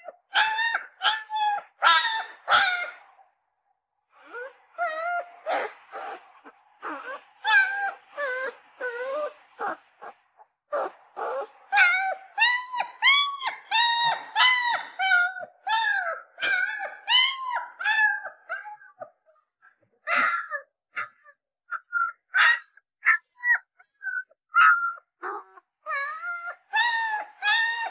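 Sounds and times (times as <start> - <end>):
puppy whimpering cries: 0.0 - 3.0, 4.2 - 19.3, 20.1 - 27.9.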